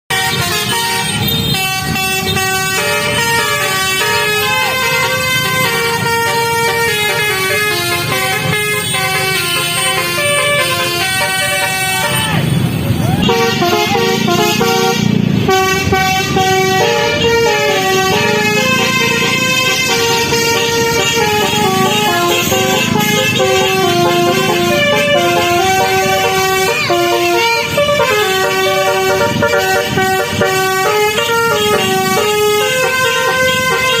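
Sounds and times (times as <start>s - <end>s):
musical air horn tune: 0.1s - 12.5s, 13.2s - 34.0s.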